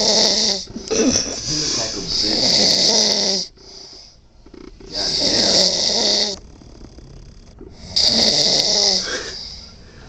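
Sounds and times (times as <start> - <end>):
dog snoring: 0.0 - 9.7.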